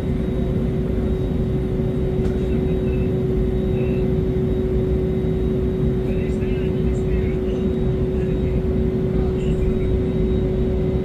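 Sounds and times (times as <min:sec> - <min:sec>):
aircraft drone: 0:00.0 - 0:11.0.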